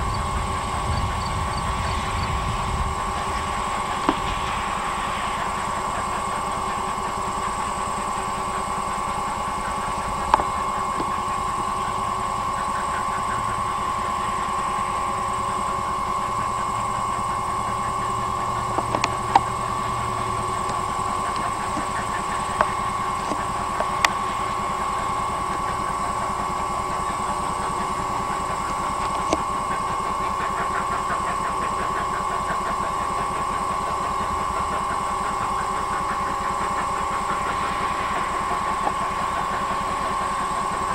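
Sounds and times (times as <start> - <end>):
high whine: 0.0 - 40.9
steam locomotive exhaust: 0.0 - 40.9.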